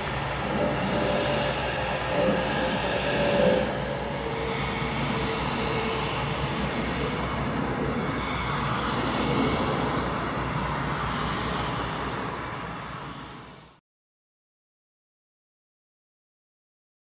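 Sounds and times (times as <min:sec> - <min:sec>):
jet engines rumbling: 0:00.0 - 0:13.8.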